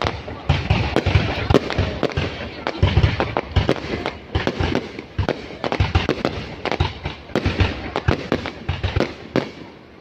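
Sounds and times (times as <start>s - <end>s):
fireworks banging: 0.0s - 10.0s.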